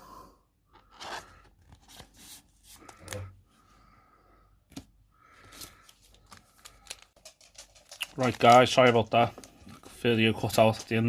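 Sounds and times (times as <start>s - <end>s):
cards and packaging rustling: 0.8s - 3.4s, 4.7s - 11.0s.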